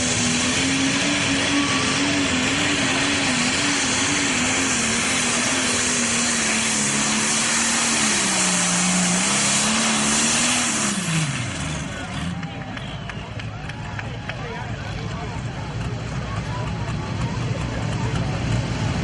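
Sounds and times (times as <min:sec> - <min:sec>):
diesel tractor engine at full throttle: 0:00.0 - 0:19.0.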